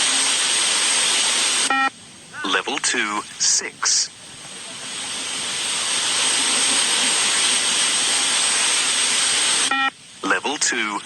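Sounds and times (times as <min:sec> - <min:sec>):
steady broad hiss: 0:00.0 - 0:11.0.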